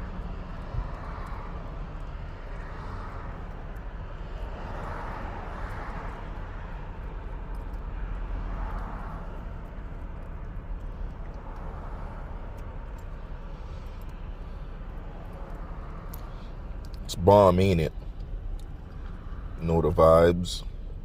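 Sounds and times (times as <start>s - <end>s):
distant engines rumbling: 0.0s - 21.0s.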